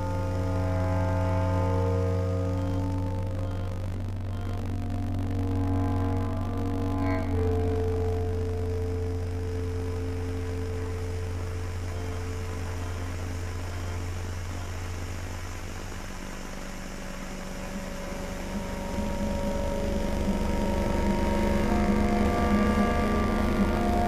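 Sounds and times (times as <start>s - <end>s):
deep hum: 0.0s - 24.0s
droning held tones: 0.0s - 24.0s.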